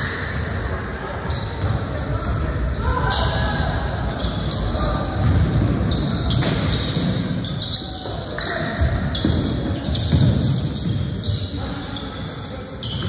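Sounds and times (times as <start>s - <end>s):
indistinct echoing voices: 0.0s - 13.0s
sneakers squeaking: 0.0s - 13.0s.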